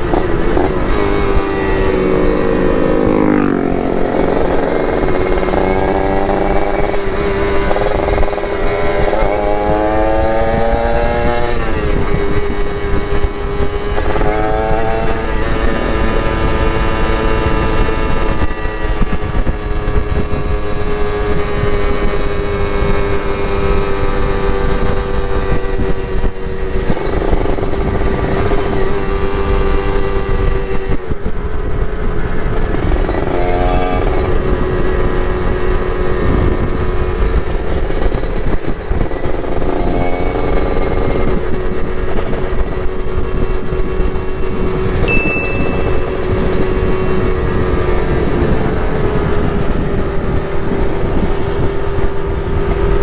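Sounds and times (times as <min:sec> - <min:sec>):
two-stroke motorcycle engine revving: 0:00.0 - 0:53.0.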